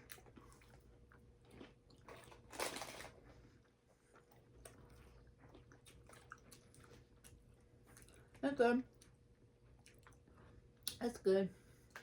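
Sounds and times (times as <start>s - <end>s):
chewing and crunching snack bar: 0.0s - 11.2s.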